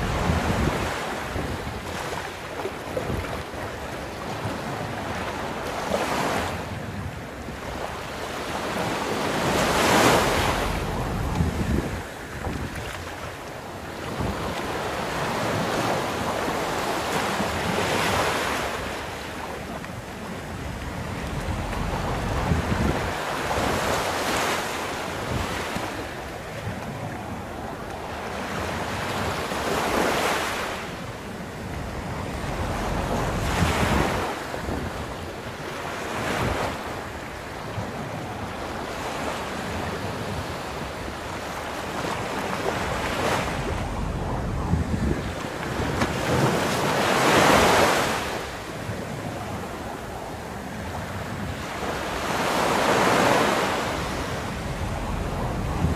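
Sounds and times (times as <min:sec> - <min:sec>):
waves breaking on a beach: 0:00.0 - 0:55.9
wind buffeting microphone: 0:00.0 - 0:55.9.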